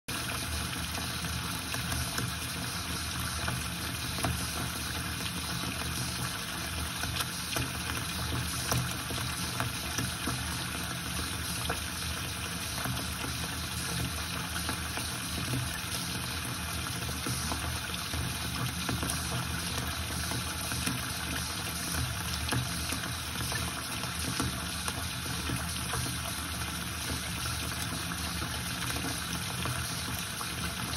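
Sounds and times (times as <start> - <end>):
tap water splashing into bowl: 0.2 - 30.9.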